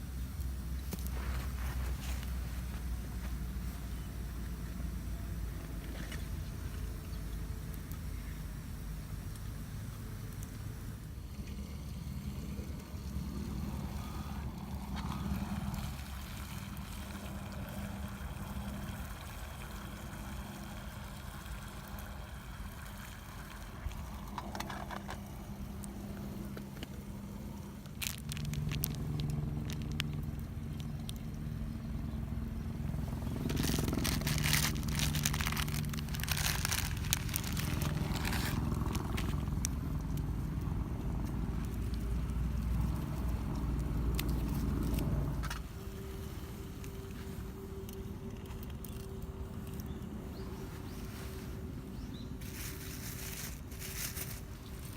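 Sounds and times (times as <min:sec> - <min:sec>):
steady low hum: 0:00.0 - 0:54.9
campfire crackling: 0:00.2 - 0:03.8, 0:05.4 - 0:31.6, 0:32.3 - 0:50.9.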